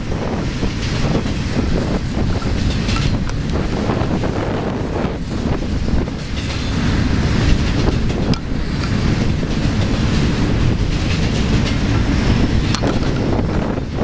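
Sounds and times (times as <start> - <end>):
freight train rumble: 0.0 - 14.0
wheels clicking over rail joints: 0.0 - 14.0.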